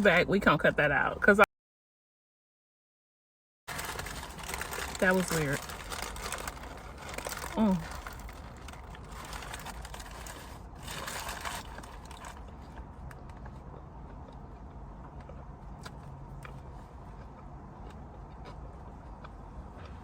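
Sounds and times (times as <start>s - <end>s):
chewing a sandwich: 3.7s - 20.0s.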